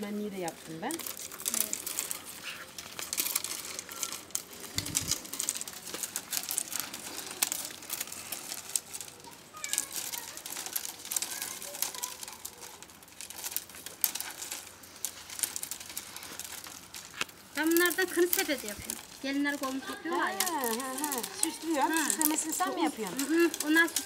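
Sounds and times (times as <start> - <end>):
dried reeds crackling and rustling: 0.0 - 24.0.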